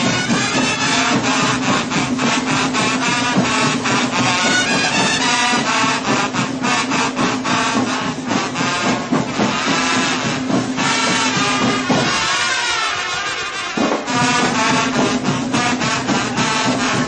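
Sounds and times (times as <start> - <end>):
marching band brass: 0.0 - 17.0
steady drum beat: 0.0 - 17.0.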